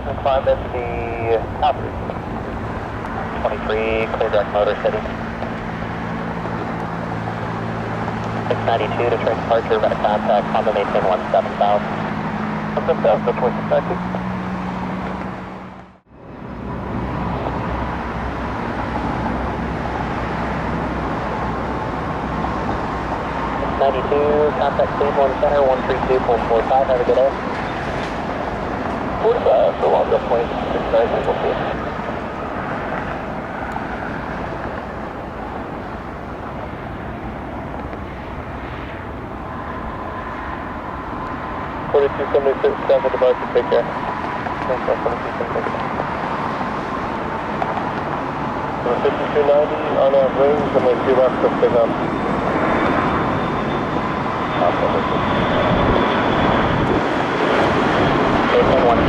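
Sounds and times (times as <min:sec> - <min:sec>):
engine rumble: 0:00.0 - 0:59.0
faint steady whine: 0:00.0 - 0:59.0.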